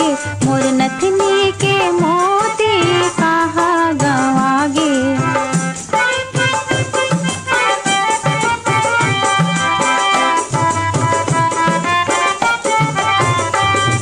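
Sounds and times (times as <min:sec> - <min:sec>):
hand drums beating: 0:00.0 - 0:14.0
instrumental melody: 0:00.0 - 0:14.0.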